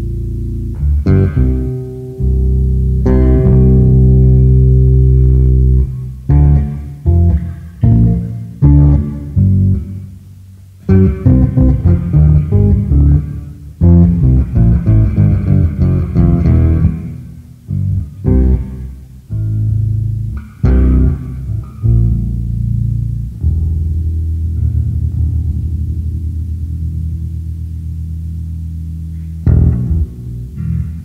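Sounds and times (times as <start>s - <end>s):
electric bass notes: 0.0s - 31.0s.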